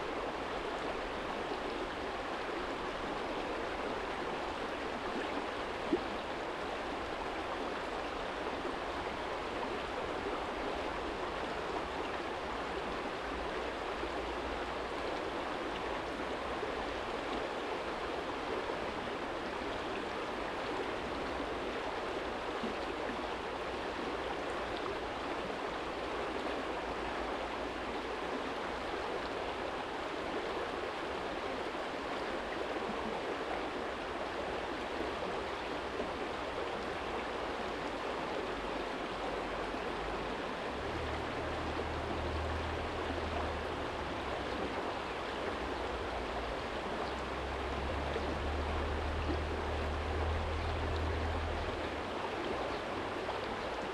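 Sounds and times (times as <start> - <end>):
stream flowing over stones: 0.0 - 53.9.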